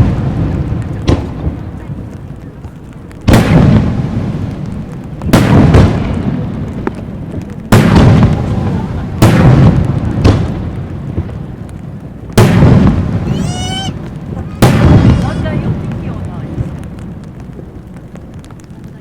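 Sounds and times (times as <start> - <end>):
firework shells booming: 0.0 - 18.9
rolling rumble of echo: 0.0 - 19.0.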